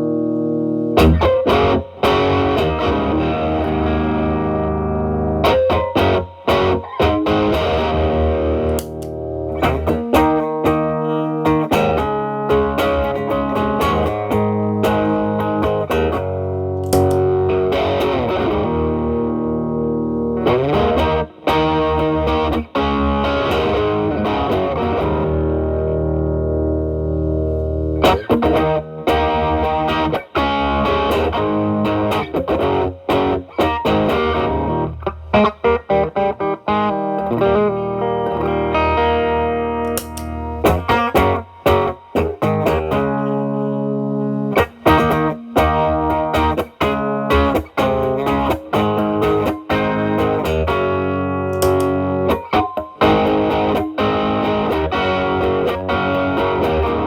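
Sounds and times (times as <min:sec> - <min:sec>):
distorted electric guitar lead: 0:00.0 - 0:57.0.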